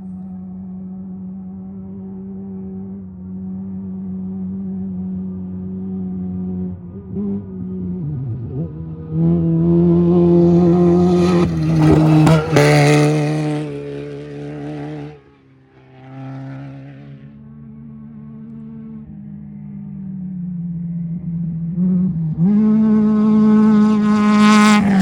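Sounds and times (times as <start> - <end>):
faint steady engine: 0.0 - 25.0
race vehicle engine passing: 0.8 - 25.0.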